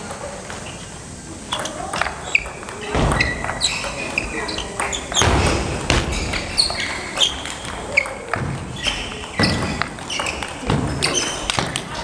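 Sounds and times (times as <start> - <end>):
ball bouncing on table: 1.5 - 11.9
ping pong ball hitting paddles: 1.5 - 12.0.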